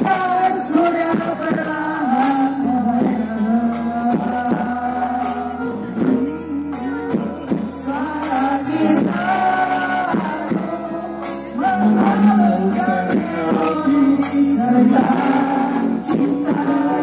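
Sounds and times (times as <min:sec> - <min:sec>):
amplified music with steady beat: 0:00.0 - 0:17.0
person singing into a microphone: 0:00.0 - 0:17.0.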